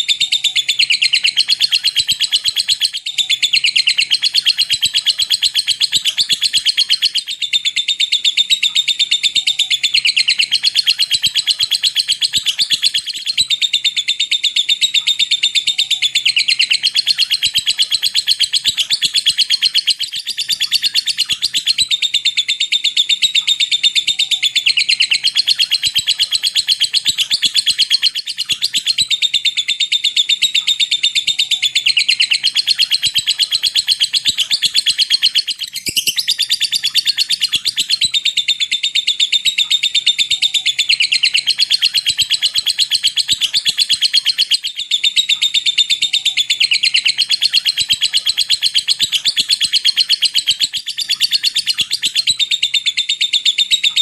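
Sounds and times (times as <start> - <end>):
lovebird chattering trill: 0.0 - 54.0.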